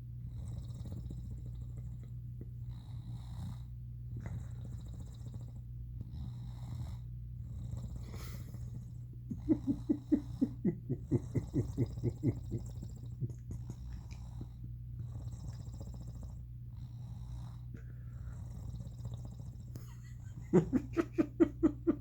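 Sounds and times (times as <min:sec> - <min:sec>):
cat purring loudly: 0:00.2 - 0:22.0.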